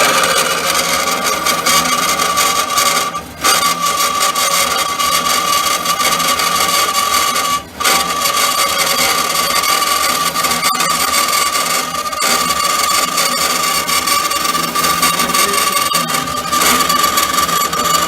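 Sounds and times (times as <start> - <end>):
band saw blade whining: 0.0 - 18.0.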